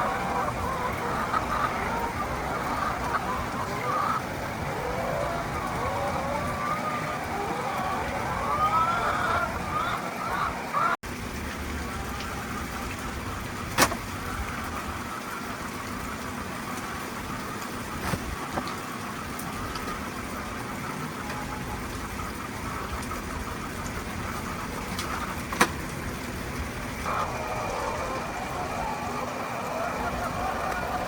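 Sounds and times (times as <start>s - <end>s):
chickens clucking: 0.0s - 11.0s, 11.8s - 31.0s
steady background noise: 0.0s - 31.0s.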